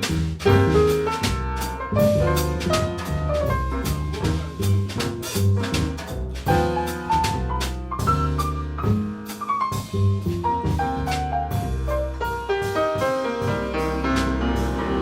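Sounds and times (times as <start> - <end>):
double bass notes: 0.0 - 15.0
jazz melody line: 0.0 - 15.0.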